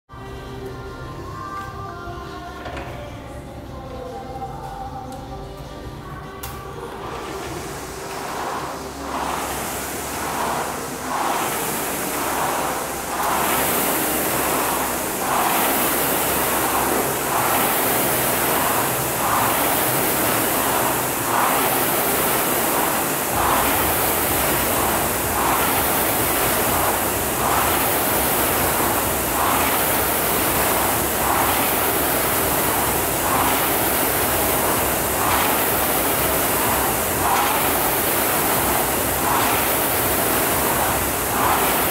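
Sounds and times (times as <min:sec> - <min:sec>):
rowing machine flywheel whooshing: 0:06.6 - 0:41.9.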